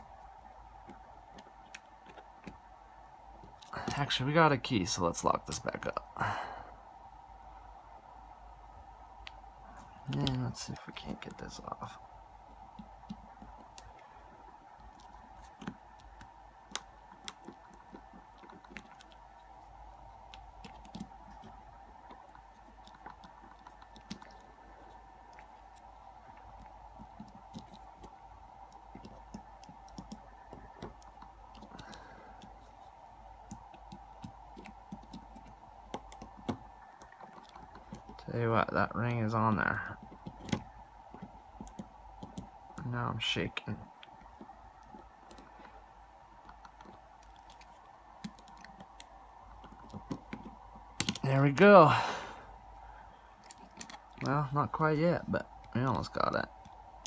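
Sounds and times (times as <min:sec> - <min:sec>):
background hum: 0:00.0 - 0:57.0.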